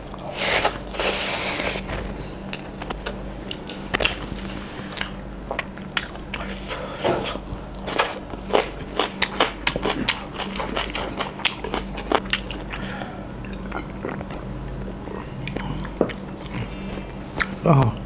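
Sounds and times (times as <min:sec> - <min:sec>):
steady low hum: 0:00.0 - 0:18.0
biting and chewing food: 0:01.6 - 0:17.9.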